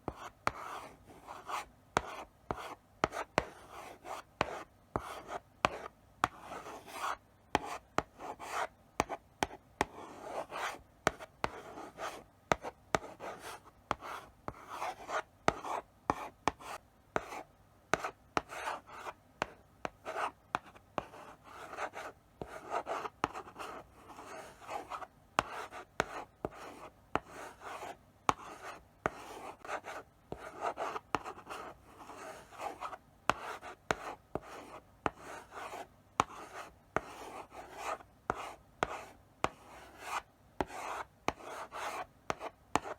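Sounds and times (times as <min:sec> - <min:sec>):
chalk tapping on blackboard: 0:00.0 - 0:42.9.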